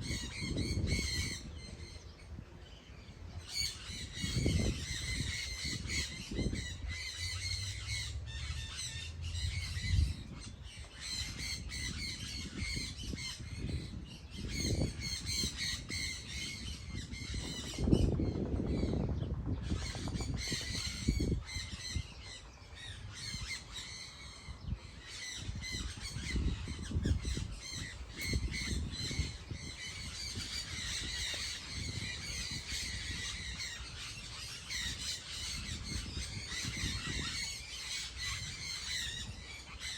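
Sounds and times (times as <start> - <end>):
birds squawking and chirping: 0.0 - 39.9.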